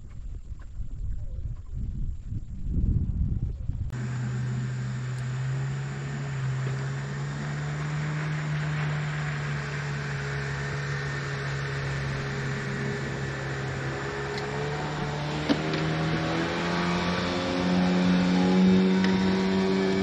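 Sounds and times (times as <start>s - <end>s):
outboard motor running: 3.9s - 20.0s.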